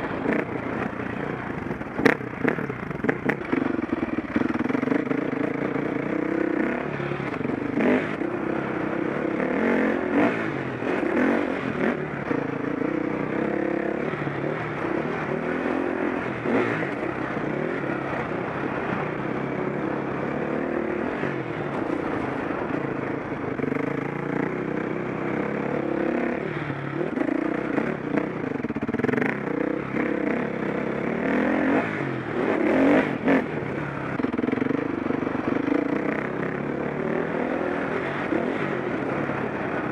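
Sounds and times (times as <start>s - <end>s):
motocross engine revving: 0.1s - 22.8s, 23.7s - 39.9s.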